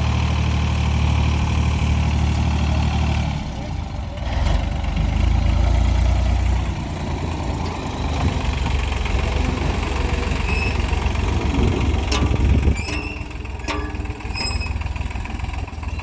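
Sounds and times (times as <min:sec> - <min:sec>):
tractor diesel engine rumbling: 0:00.0 - 0:16.0.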